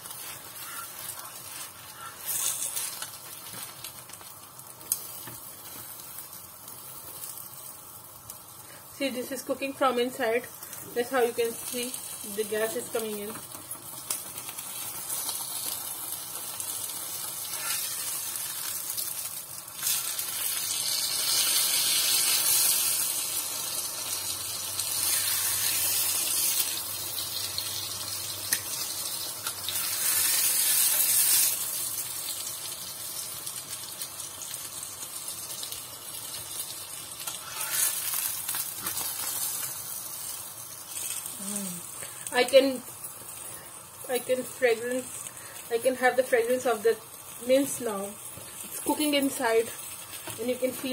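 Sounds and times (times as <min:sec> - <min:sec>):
flatbread sizzling in oil: 0:00.0 - 0:50.9.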